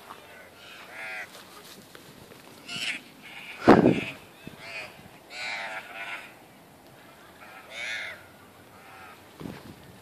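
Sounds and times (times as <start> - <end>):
birds calling: 0.0 - 1.7, 2.5 - 9.5.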